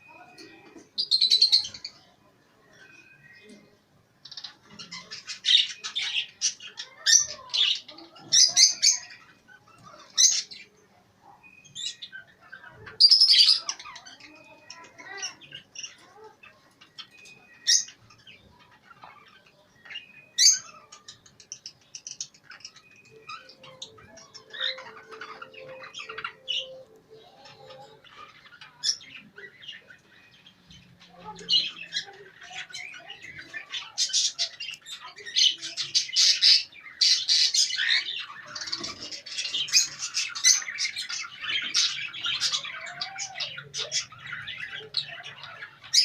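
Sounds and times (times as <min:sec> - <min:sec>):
cage birds chirping and squawking: 0:00.0 - 0:46.0.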